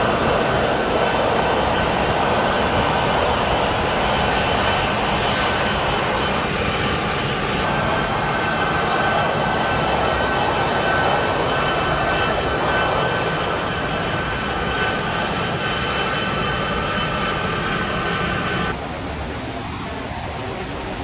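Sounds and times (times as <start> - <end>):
jet engines rushing: 0.0 - 21.0
thin steady engine whine: 0.0 - 21.0.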